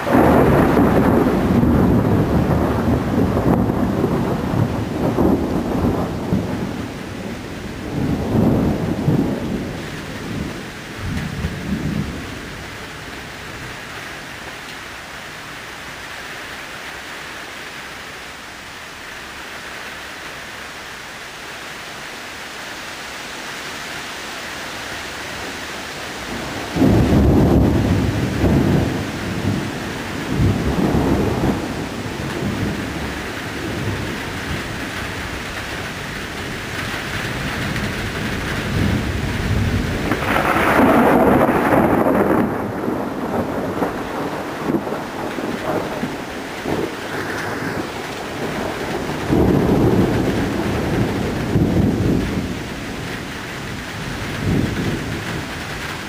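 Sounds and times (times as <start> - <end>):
thunder rumbling: 0.0 - 14.5, 25.3 - 56.0
rain hiss: 0.0 - 56.0.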